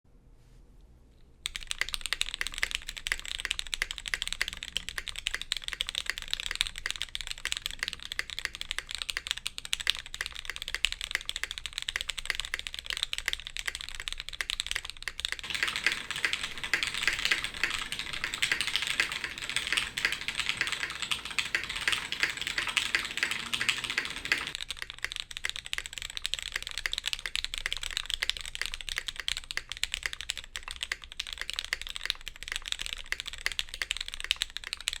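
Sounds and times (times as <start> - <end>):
mechanical keyboard typing: 1.5 - 35.0.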